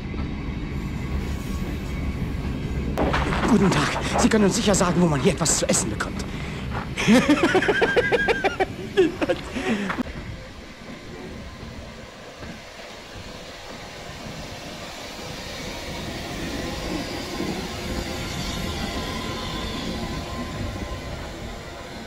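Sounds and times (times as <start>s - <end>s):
rail and running noise: 0.0s - 22.0s
steam train moving on track: 0.0s - 22.0s.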